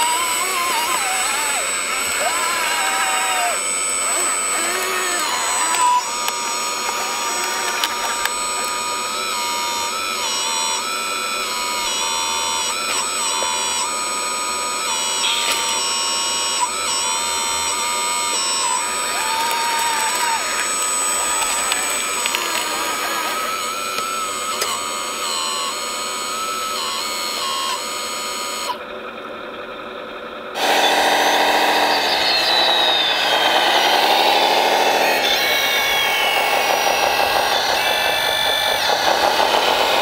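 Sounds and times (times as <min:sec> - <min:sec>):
electric motor whine: 0:00.0 - 0:40.0.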